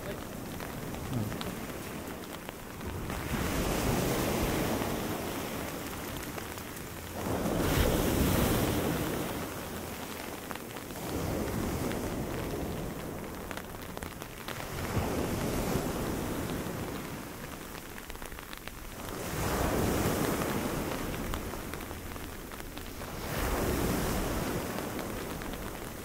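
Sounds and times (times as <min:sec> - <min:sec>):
steady rain: 0:00.0 - 0:26.0
waves breaking on beach: 0:00.0 - 0:26.0
wind: 0:00.0 - 0:26.0.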